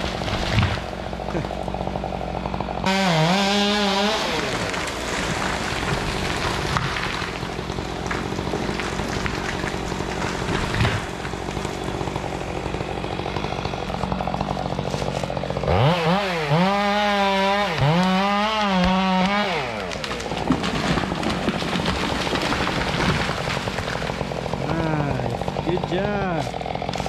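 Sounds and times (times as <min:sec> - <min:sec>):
chainsaw idling and revving: 0:00.0 - 0:27.0.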